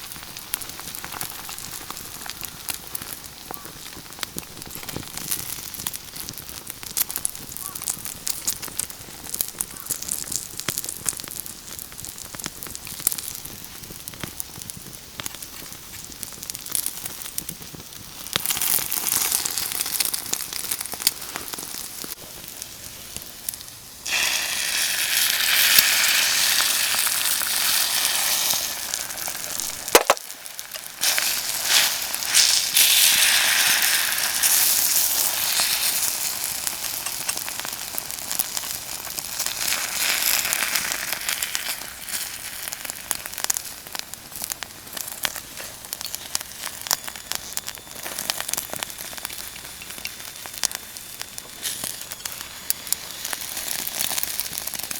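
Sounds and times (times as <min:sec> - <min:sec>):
fire crackling: 0:00.0 - 0:54.9
food sizzling: 0:00.0 - 0:54.9.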